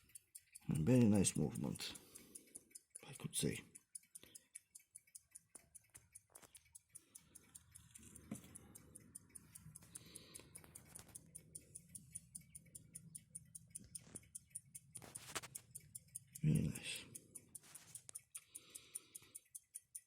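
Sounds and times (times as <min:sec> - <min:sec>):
pocket watch ticking: 0:00.0 - 0:20.0.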